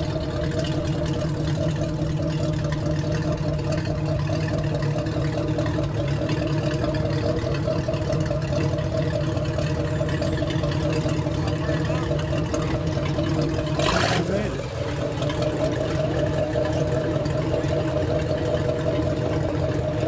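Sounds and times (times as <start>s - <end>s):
motorboat engine idling: 0.0s - 20.0s.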